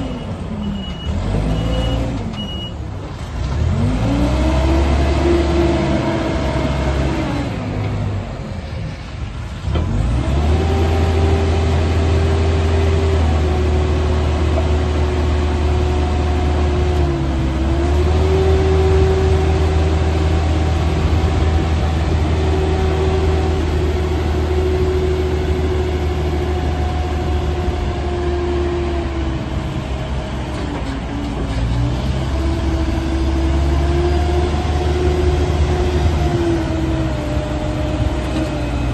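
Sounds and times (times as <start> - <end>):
diesel engine revving with whine: 0.0 - 38.9.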